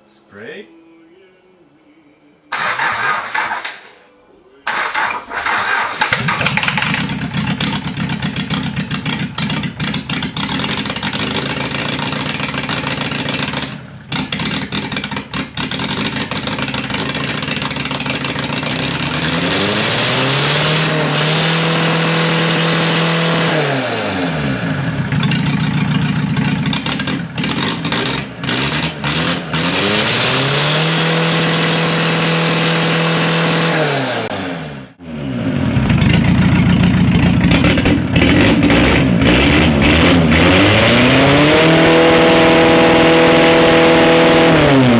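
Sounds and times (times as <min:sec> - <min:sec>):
diesel engine running and revving: 0:04.7 - 0:44.9.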